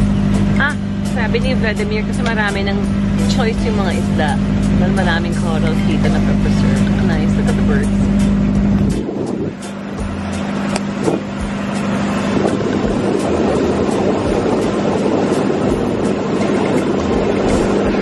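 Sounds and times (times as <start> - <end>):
boat engine hum: 0.0 - 18.0
rush of wind and water: 0.0 - 18.0.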